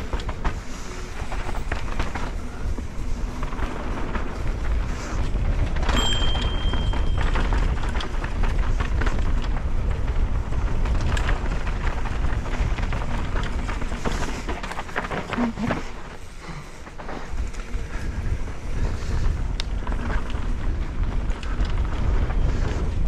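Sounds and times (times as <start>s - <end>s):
wind rushing over microphone: 0.0s - 16.3s, 17.0s - 23.0s
bike rattling over bumps: 0.0s - 23.0s
tyres rolling on dirt: 0.0s - 23.0s.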